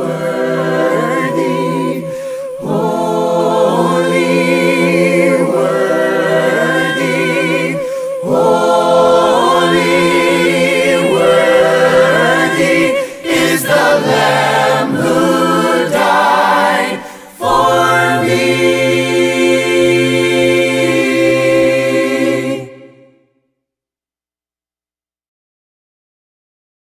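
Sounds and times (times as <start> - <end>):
voices singing a hymn in harmony: 0.0 - 23.2.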